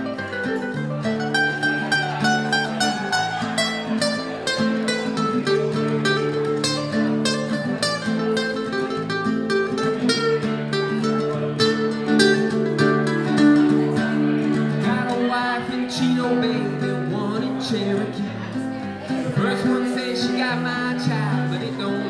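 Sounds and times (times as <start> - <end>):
acoustic guitar strummed and picked: 0.0 - 22.0.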